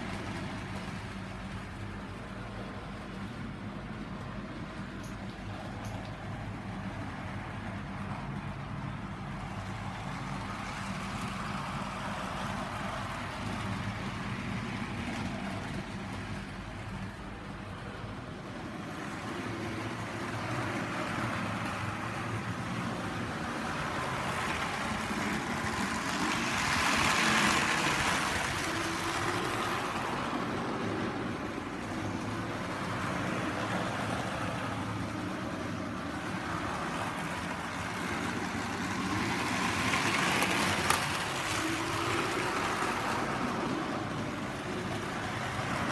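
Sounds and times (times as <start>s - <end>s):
model train motor hum: 0.0s - 45.9s
model train wheels rumbling: 0.0s - 45.9s.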